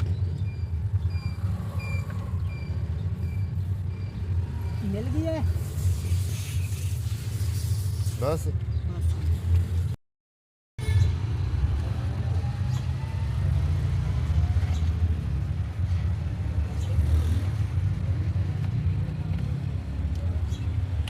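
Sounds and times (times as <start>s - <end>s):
vehicle engine low rumble: 0.0s - 10.0s, 11.2s - 21.0s.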